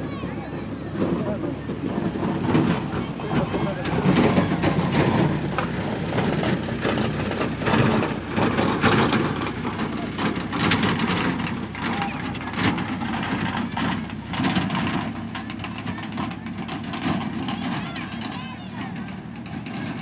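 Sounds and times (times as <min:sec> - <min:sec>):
crowd chattering: 0:00.0 - 0:20.0
short knocks and crackles: 0:00.9 - 0:20.0.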